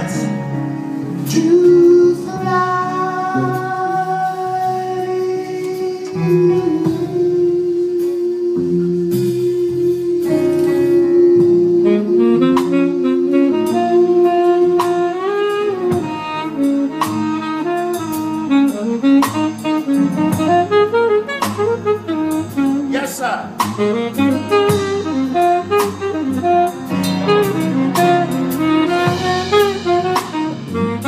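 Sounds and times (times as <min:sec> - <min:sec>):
bass: 0:00.0 - 0:31.0
drums: 0:00.0 - 0:31.0
lead melody instrument: 0:00.0 - 0:31.0.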